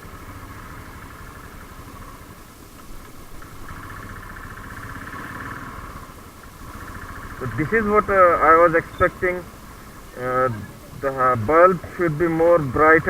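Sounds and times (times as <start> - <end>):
motorcycle engine buzzing: 0.0 - 13.0.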